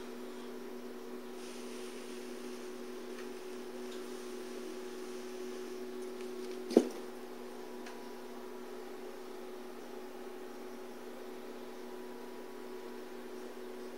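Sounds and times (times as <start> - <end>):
two-tone electrical hum: 0.0 - 13.9.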